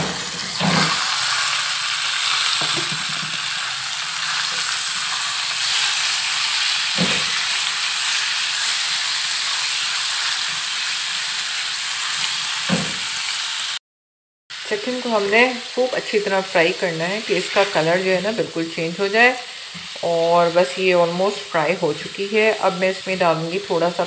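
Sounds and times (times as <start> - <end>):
chicken sizzling in oil: 0.0 - 13.8, 14.5 - 24.0.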